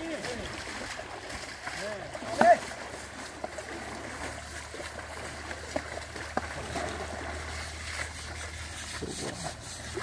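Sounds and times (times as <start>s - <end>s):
river water sloshing and splashing: 0.0s - 10.0s
sharp splashes: 0.0s - 10.0s.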